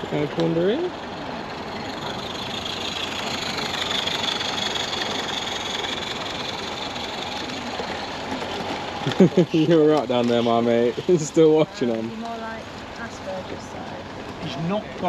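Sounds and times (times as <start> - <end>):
train running by: 0.0 - 15.0.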